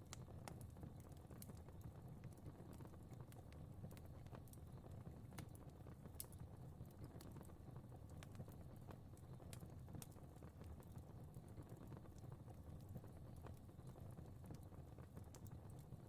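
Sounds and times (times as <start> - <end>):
fire crackling: 0.0 - 16.0
low rumble of flames: 0.0 - 16.0.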